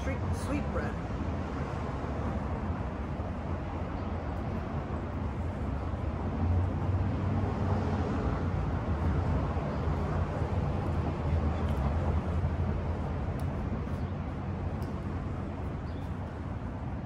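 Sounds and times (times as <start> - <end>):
low rumble of street traffic: 0.0 - 17.0.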